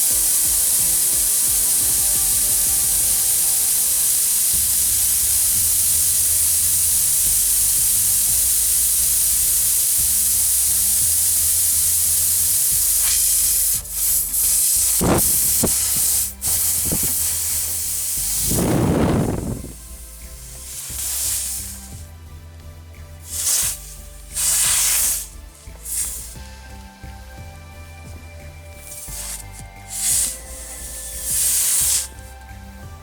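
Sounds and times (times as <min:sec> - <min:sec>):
air hissing out of tire: 0:00.0 - 0:22.2, 0:23.0 - 0:33.0.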